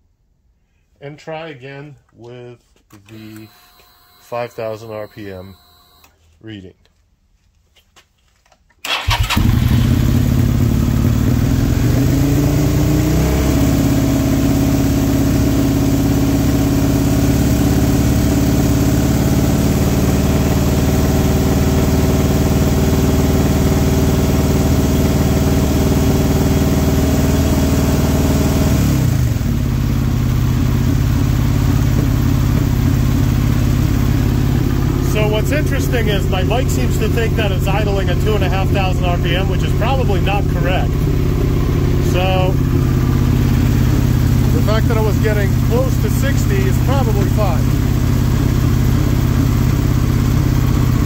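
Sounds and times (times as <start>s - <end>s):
motorcycle engine revving: 8.9s - 51.0s.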